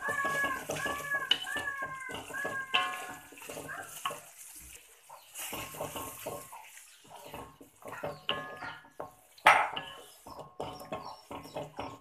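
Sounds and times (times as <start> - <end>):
spatula scraping a wok: 0.0 - 12.0.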